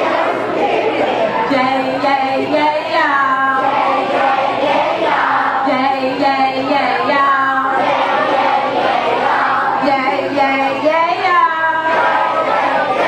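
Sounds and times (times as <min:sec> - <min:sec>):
children singing: 0:00.0 - 0:10.9, 0:11.5 - 0:13.0
woman singing over a speaker: 0:01.4 - 0:13.0.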